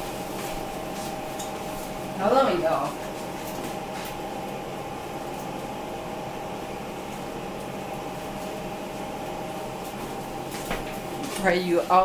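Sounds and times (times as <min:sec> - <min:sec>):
appliance fan humming: 0:00.0 - 0:12.0.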